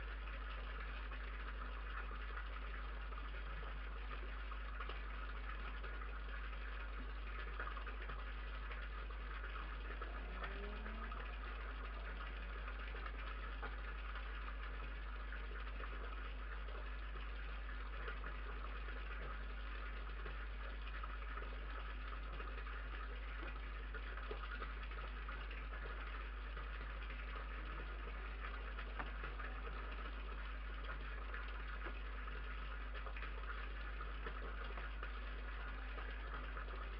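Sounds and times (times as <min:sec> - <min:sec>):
steady low hum and hiss: 0:00.0 - 0:36.9.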